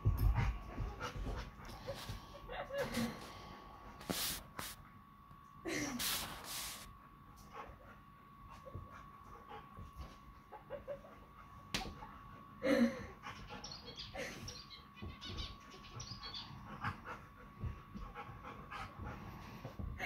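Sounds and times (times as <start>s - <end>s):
dogs play-fighting: 0.0s - 3.3s, 6.9s - 20.0s.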